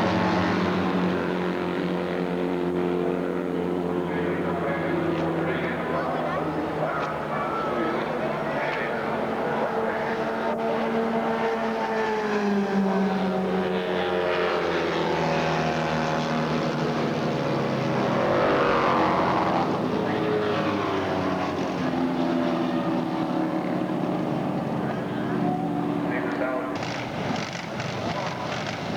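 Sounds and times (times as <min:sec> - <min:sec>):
racing motorcycle engines passing: 0:00.0 - 0:28.9.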